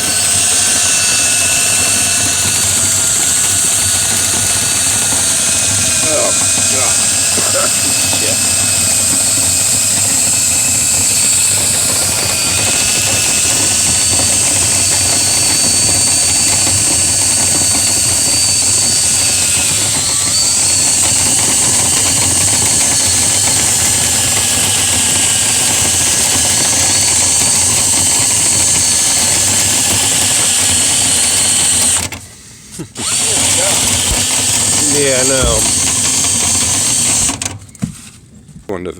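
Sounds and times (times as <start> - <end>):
vent cleaning motor whining: 0.0 - 38.6.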